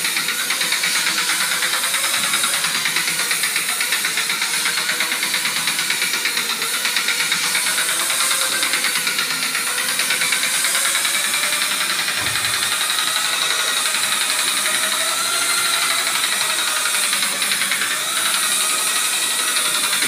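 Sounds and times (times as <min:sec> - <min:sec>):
drywall sander whining: 0:00.0 - 0:20.0
sanding hiss: 0:00.0 - 0:20.0.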